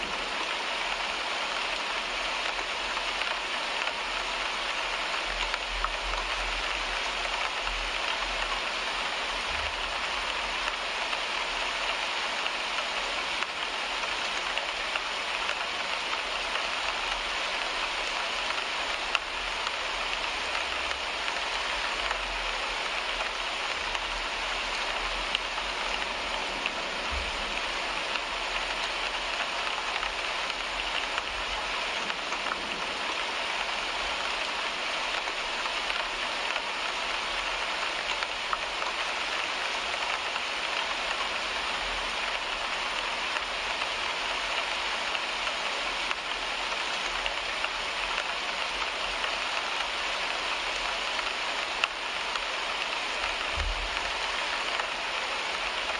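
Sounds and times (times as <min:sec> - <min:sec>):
rain on a windshield: 0:00.0 - 0:55.9.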